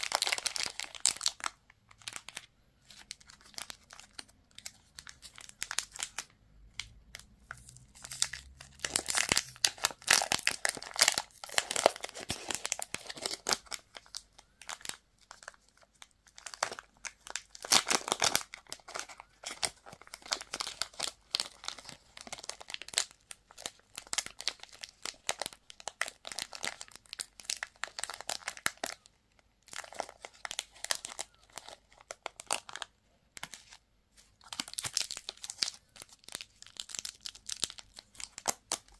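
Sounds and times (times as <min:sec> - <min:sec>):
candy wrappers crinkling: 0:00.0 - 0:38.9.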